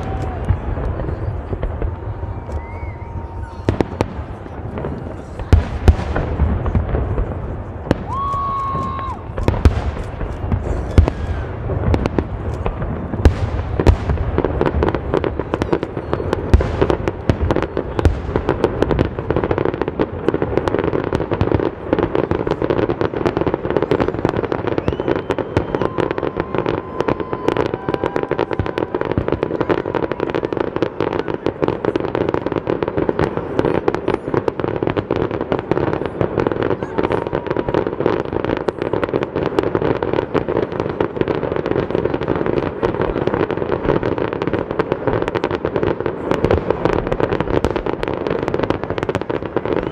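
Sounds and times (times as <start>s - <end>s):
firework crackling barrage: 0.0s - 49.9s.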